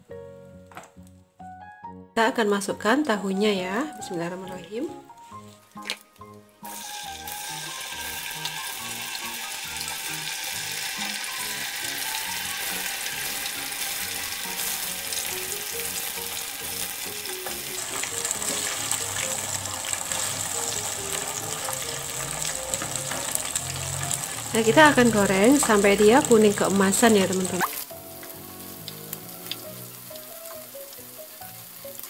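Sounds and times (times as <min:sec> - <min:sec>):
tofu sizzling in hot oil: 0:05.2 - 0:32.0.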